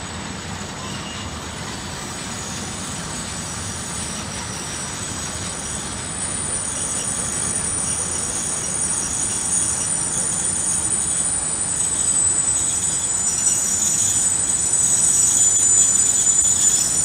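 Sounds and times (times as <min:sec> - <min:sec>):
high wheel squeal: 0:00.0 - 0:17.0
train wheels rumbling on rail: 0:00.0 - 0:17.0.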